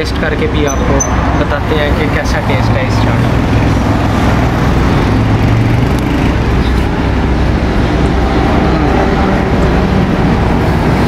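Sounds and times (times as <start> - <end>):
motor traffic rumble: 0.0 - 11.0.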